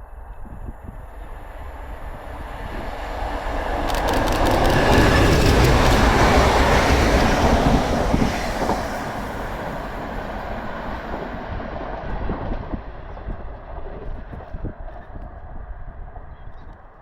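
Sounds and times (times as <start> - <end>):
train rumbling over rails: 0.0 - 17.0.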